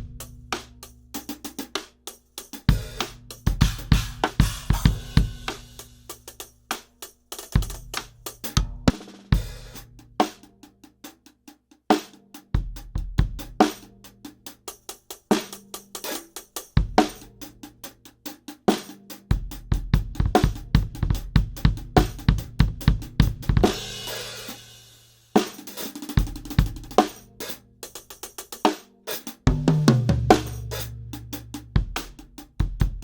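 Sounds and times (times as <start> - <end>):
drum kit groove: 0.0 - 33.0.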